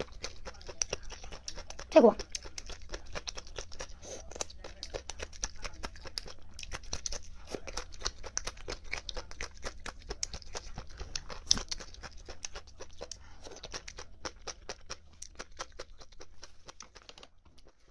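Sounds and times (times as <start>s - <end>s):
chewing crunchy cartilage: 0.0s - 17.9s.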